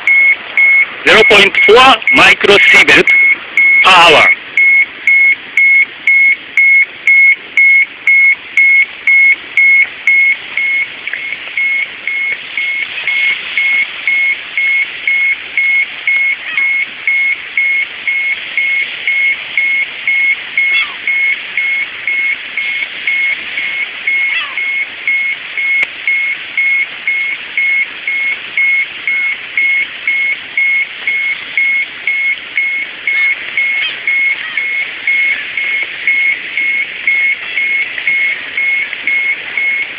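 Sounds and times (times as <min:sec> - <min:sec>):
high-pitched alarm beeps: 0:00.0 - 0:39.9.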